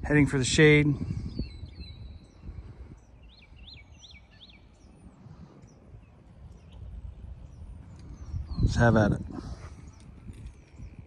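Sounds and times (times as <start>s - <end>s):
bird chirping: 1.0s - 11.0s.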